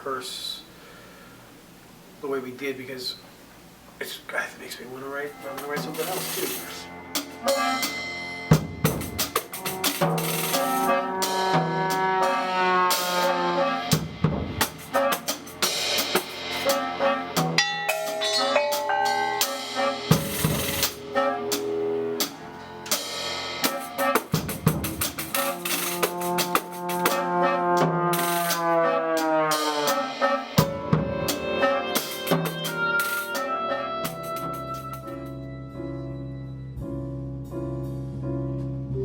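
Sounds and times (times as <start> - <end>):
ensemble music with drum kit: 5.3 - 39.0.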